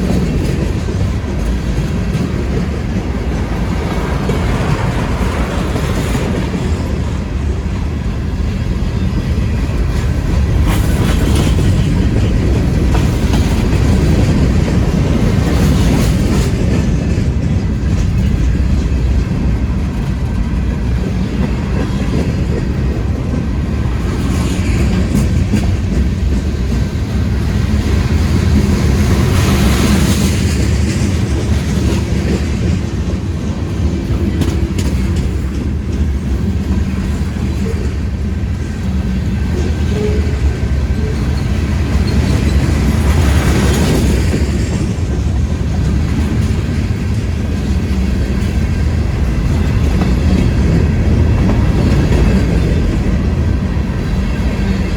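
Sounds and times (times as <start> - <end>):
freight train wheels rumbling on rail: 0.0 - 54.9.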